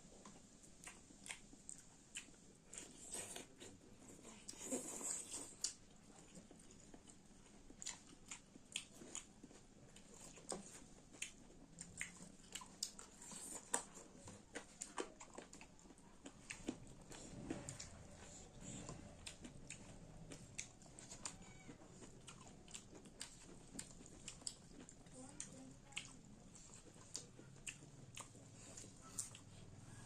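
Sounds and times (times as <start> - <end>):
chewing and biting food: 0.2 - 30.0.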